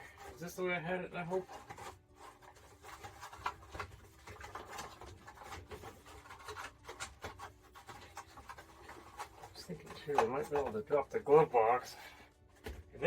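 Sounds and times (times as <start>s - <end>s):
duct rubbing and scraping: 0.0s - 13.0s.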